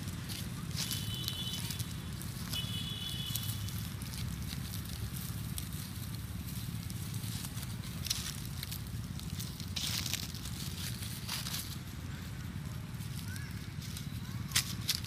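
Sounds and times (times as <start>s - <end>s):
dry leaves crackling underfoot: 0.0s - 15.0s
steady low rumble: 0.0s - 15.0s.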